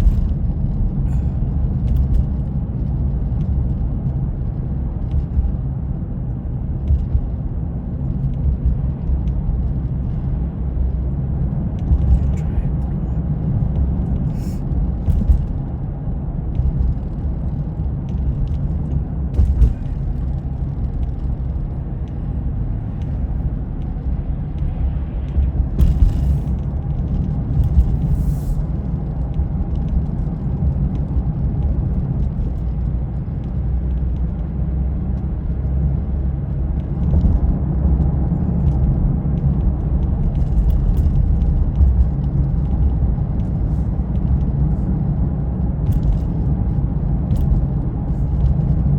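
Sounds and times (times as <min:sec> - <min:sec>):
vehicle driving rumble: 0:00.0 - 0:48.9.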